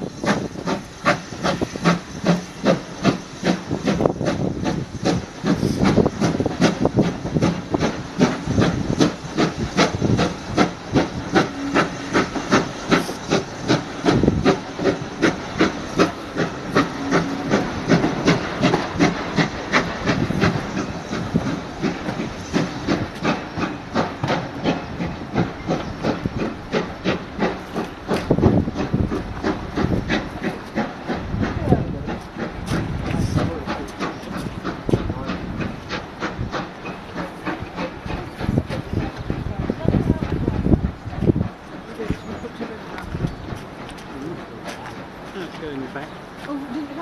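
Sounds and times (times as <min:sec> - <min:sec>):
steam hissing: 0:00.0 - 0:47.0
steam locomotive chuffing: 0:00.0 - 0:47.0.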